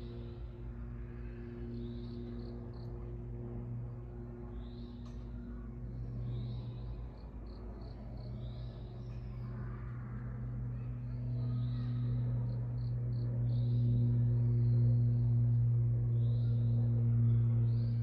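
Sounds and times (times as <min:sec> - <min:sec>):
low hum with overtones: 0:00.0 - 0:18.0.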